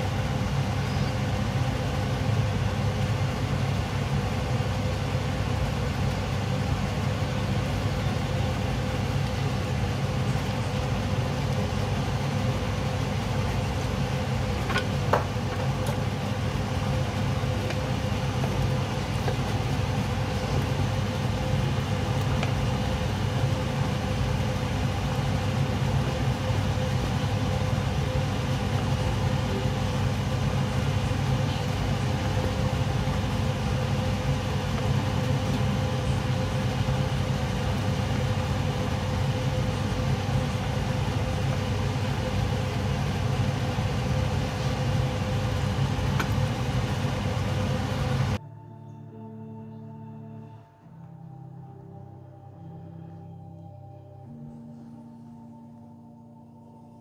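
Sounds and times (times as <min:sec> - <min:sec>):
pot boiling rumble: 0:00.0 - 0:48.4
faint steady hum: 0:00.0 - 0:57.0.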